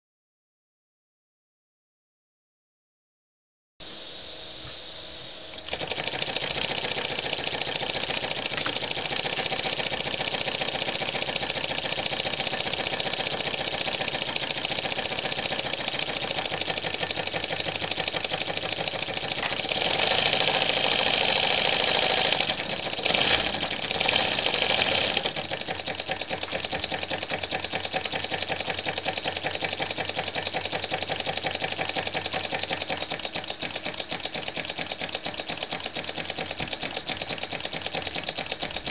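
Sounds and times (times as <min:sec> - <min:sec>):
model steam engine clattering: 0:05.7 - 0:38.9.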